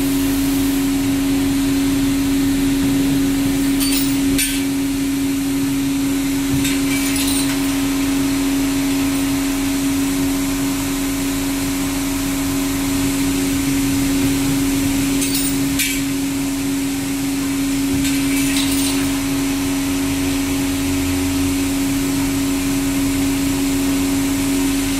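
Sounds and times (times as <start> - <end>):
motor hum: 0.0 - 24.9.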